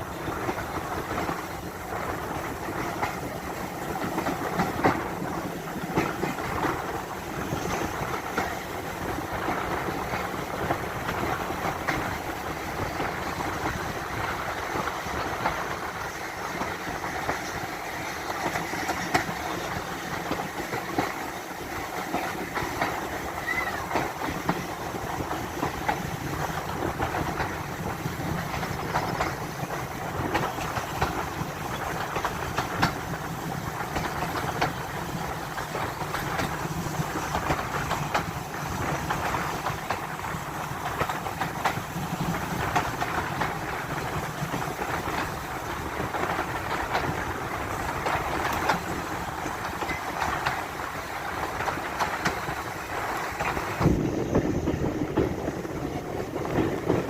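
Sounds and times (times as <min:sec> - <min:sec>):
train rumbling: 0:00.0 - 0:57.0
wheels clicking over rail joints: 0:00.0 - 0:57.0.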